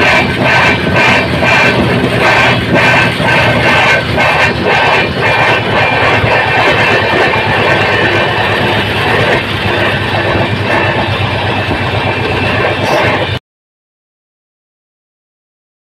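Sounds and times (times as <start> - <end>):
train wheels rolling on rail: 0.0 - 13.4.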